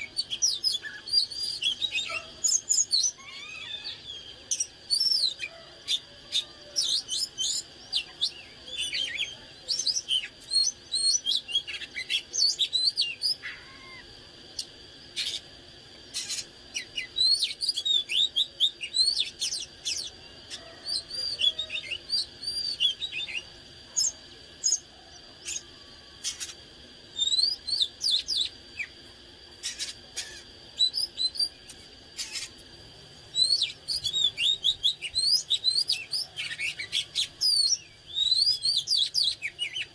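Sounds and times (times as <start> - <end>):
songbird singing whistled notes: 0.0 - 15.4, 16.1 - 29.0, 29.6 - 32.5, 33.3 - 39.9.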